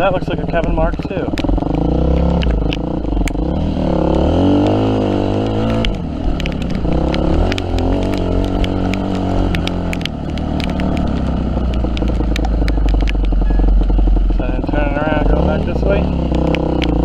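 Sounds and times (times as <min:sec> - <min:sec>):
motorcycle engine revving: 0:00.0 - 0:17.0
sharp clicks: 0:00.5 - 0:14.3, 0:15.2 - 0:17.0.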